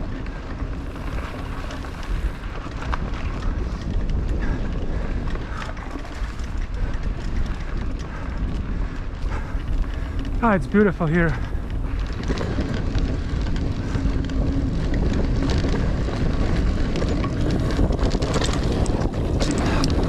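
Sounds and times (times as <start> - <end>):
bike clicks and rattles: 0.0 - 20.0
bike tyre noise: 0.0 - 20.0
wind rushing over microphone: 0.0 - 20.0.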